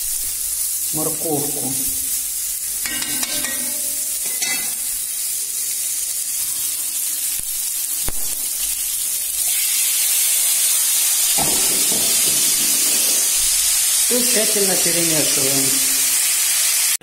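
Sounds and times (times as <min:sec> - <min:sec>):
pork fat sizzling in a frying pan: 0:00.0 - 0:17.0.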